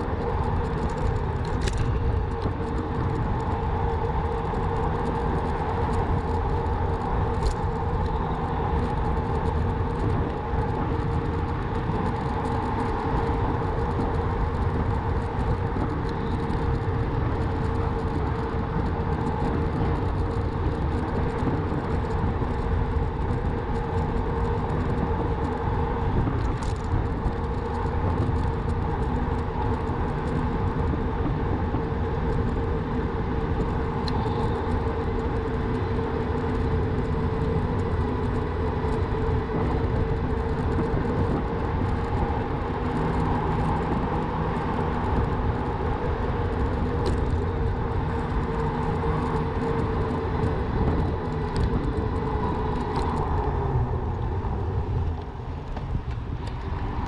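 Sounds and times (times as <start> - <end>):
steady hum: 0.0 - 57.0
wind on microphone: 0.0 - 57.0.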